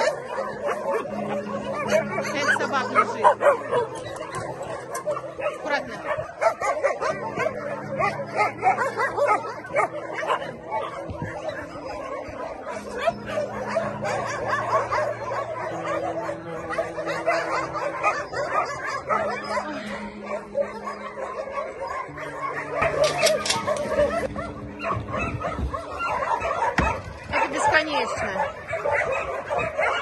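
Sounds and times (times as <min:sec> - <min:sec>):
many dogs barking and yelping: 0:00.0 - 0:30.0.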